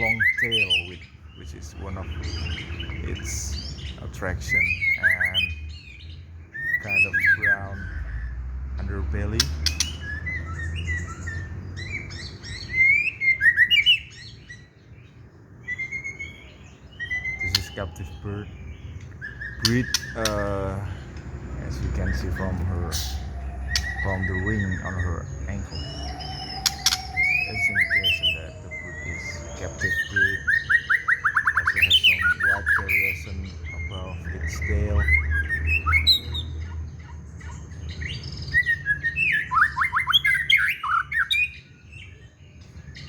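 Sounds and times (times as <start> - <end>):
bird singing whistled notes: 0.0 - 43.0.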